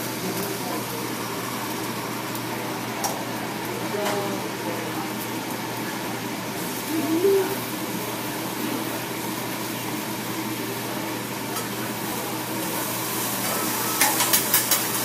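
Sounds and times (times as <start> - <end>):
food sizzling on griddle: 0.0 - 15.0
restaurant background noise: 0.0 - 15.0.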